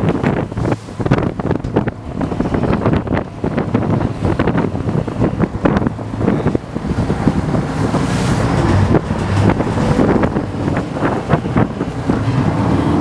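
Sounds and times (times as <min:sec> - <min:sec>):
boat engine rumble: 0:00.0 - 0:13.0
waves rushing along hull: 0:00.0 - 0:13.0
wind buffeting microphone: 0:00.0 - 0:13.0.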